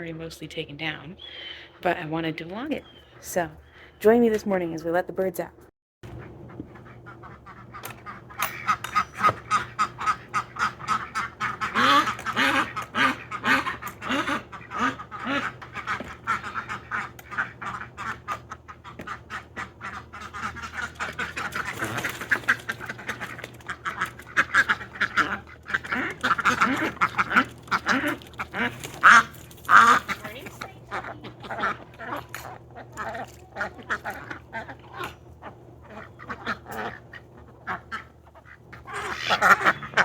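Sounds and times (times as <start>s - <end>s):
ducks quacking: 6.0s - 40.0s.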